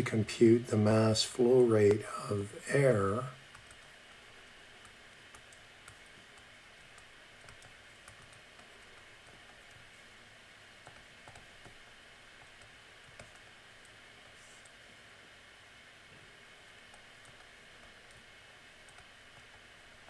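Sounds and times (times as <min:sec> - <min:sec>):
low hiss: 0:00.0 - 0:20.0.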